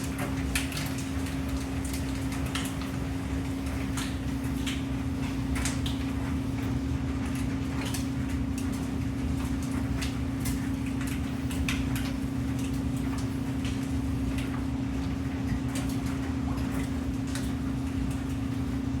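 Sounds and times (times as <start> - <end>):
small splashes and ticks: 0.0 - 18.5.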